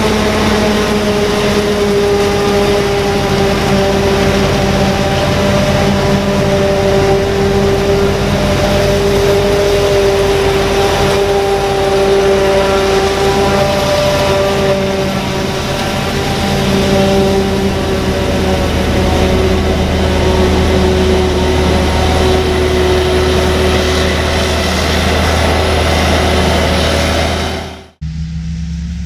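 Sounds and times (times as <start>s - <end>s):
forage harvester droning and whining: 0.0s - 29.0s
tractor engine: 0.0s - 29.0s.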